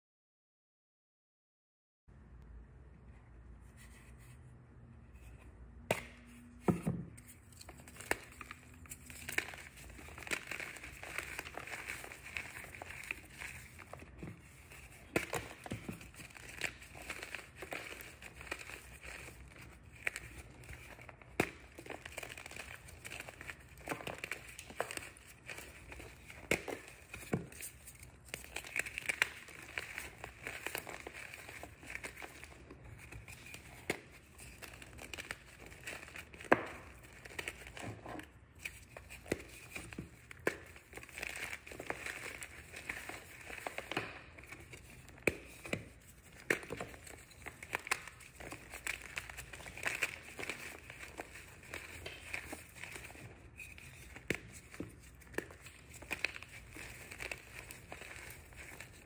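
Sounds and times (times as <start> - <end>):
chalk crunching and cracking: 7.2 - 59.0
powder crumbling: 7.2 - 59.0.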